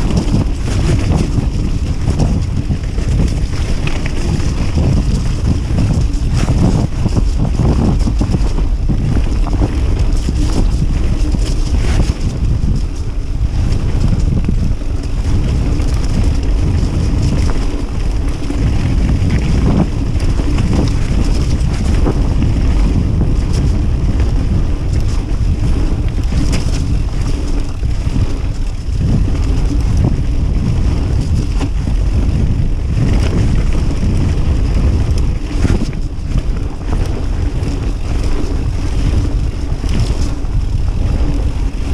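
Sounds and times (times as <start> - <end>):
bike rattles and clicks: 0.0 - 41.9
bike tyres rumbling on dirt: 0.0 - 41.9
wind buffeting microphone: 0.0 - 41.9.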